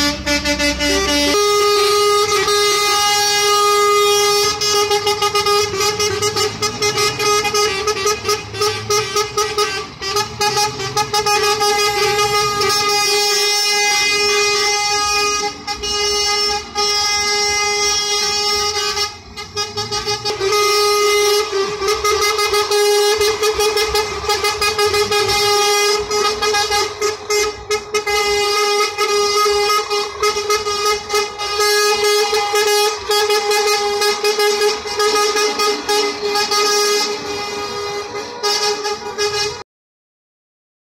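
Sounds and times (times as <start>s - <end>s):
truck air horn: 0.0s - 39.6s
truck diesel engines rumbling: 0.0s - 39.6s.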